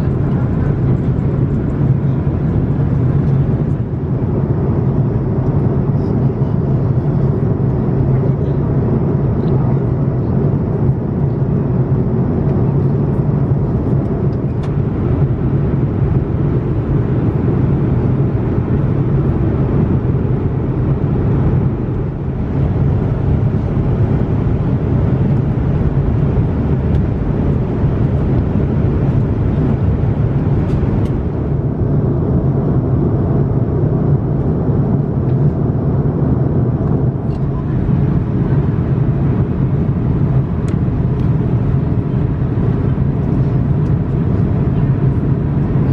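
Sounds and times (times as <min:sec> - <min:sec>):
airplane cabin engine drone: 0:00.0 - 0:45.9.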